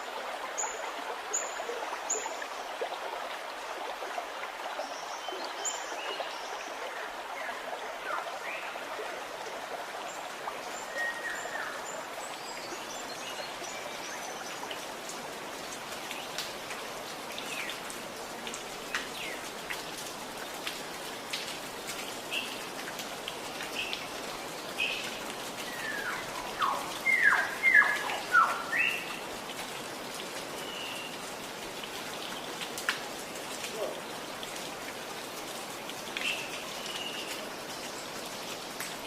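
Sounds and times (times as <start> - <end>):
gurgling trickling water: 0.0 - 39.0
water drips: 0.0 - 39.0
songbirds chirping: 3.4 - 39.0.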